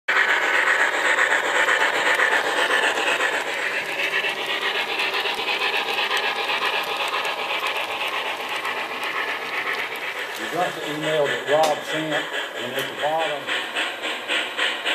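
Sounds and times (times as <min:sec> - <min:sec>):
model train cars rattling on rail: 0:00.1 - 0:14.9.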